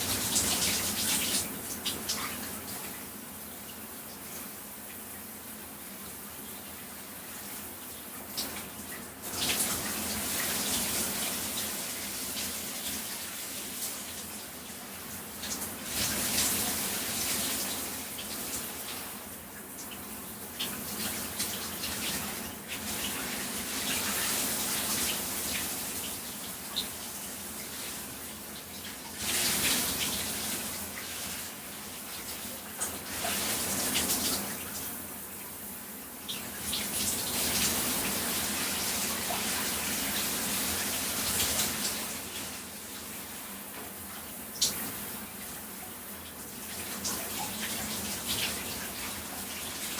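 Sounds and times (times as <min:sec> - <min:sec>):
shower water splashing on body: 0:00.0 - 0:49.9.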